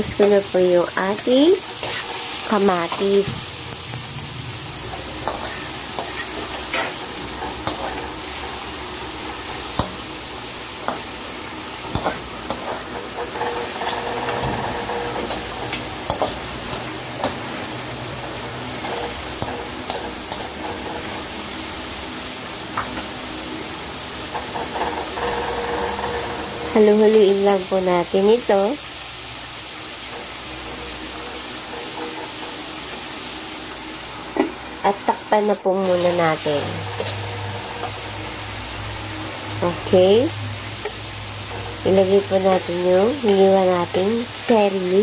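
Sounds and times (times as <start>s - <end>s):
metal spatula scraping wok: 0.0s - 3.8s, 4.5s - 22.0s, 24.2s - 28.7s, 30.0s - 34.1s, 34.8s - 45.0s
vegetables sizzling in hot oil: 0.0s - 45.0s.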